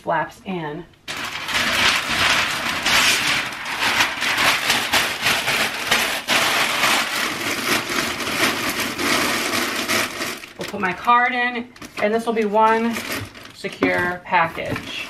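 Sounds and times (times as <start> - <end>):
packing paper crumpling: 1.1 - 15.0.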